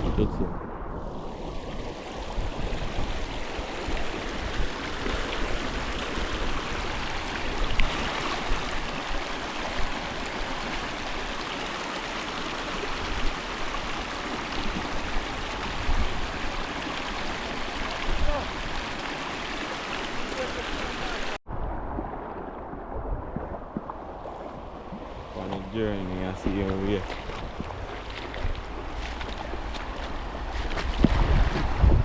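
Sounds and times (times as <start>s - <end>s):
river water flowing: 0.7s - 31.9s.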